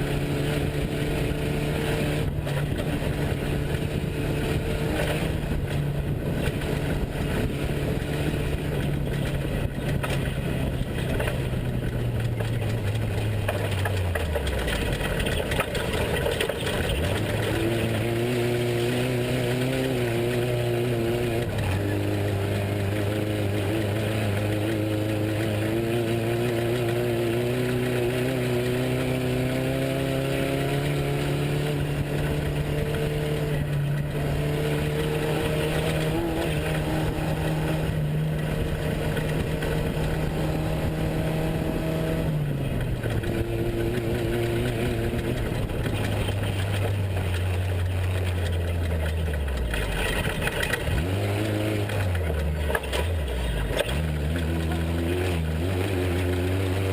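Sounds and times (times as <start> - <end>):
constant rushing noise: 0.0 - 56.9
truck engine running hard: 0.0 - 56.9.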